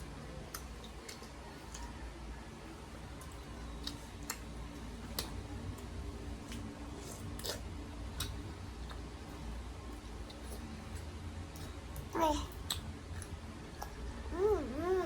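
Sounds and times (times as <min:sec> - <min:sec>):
mouth clicks and smacks eating: 0:00.0 - 0:02.0, 0:03.1 - 0:14.1
low steady hum: 0:00.0 - 0:15.0.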